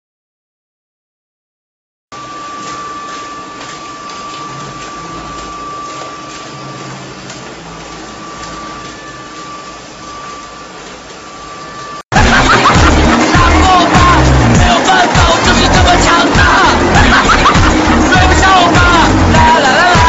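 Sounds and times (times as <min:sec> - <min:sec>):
rendering machine whirring: 0:02.2 - 0:20.0.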